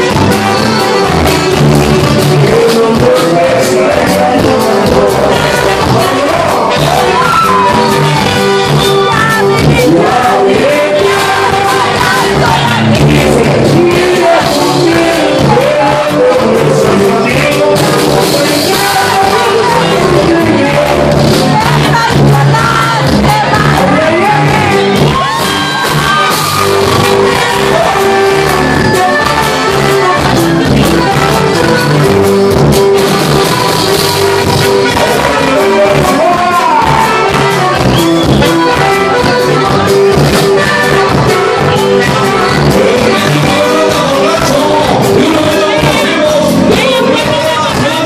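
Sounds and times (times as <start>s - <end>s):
button accordion: 0.0s - 48.0s
drums: 0.0s - 48.0s
live band playing loudly: 0.0s - 48.0s
saxophone: 0.0s - 48.0s.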